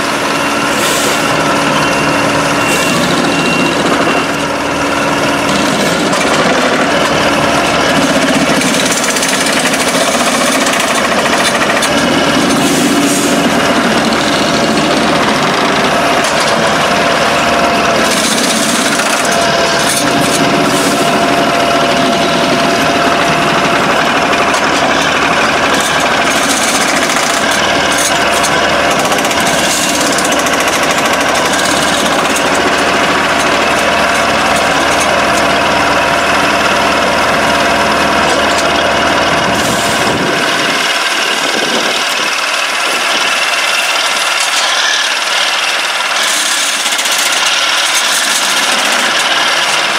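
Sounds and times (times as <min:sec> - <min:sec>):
track machine engine and hydraulics: 0:00.0 - 0:49.9.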